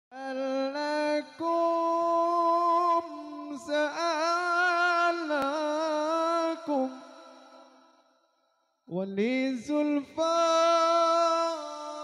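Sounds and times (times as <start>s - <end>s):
man singing into a microphone: 0.1s - 7.8s, 8.9s - 12.0s.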